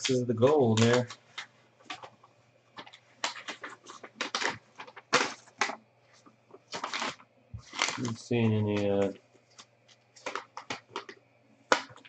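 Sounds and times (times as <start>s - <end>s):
packaging crackling and rustling: 0.0s - 12.0s.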